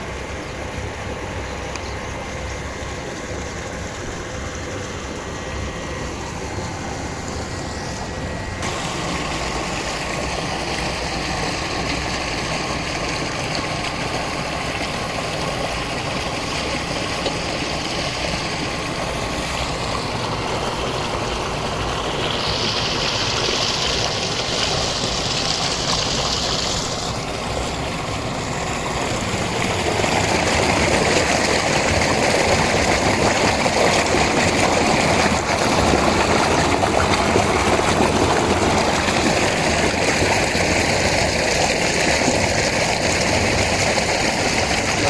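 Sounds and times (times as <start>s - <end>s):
water rushing: 0.0s - 45.0s.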